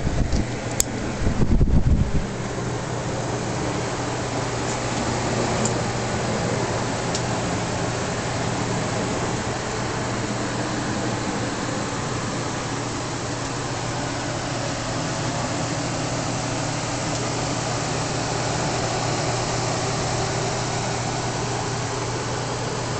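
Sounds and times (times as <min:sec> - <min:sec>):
steady mechanical hum: 0:00.0 - 0:22.9.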